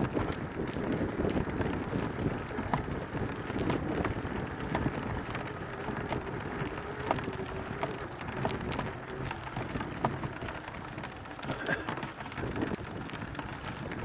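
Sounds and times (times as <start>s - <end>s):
small clicks and knocks: 0.0s - 14.0s
tyres rattling over stones: 0.0s - 14.0s
wind buffeting microphone: 0.0s - 14.0s.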